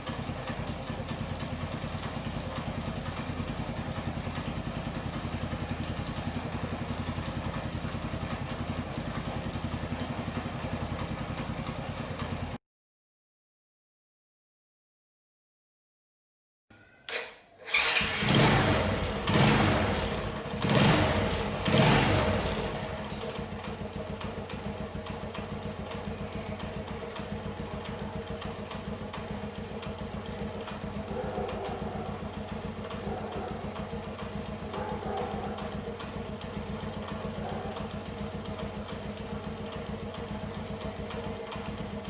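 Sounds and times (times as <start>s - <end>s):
engine ticking: 0.0s - 12.6s, 17.7s - 42.0s
motorcycle engine revving and idling: 0.0s - 12.6s, 17.7s - 42.0s.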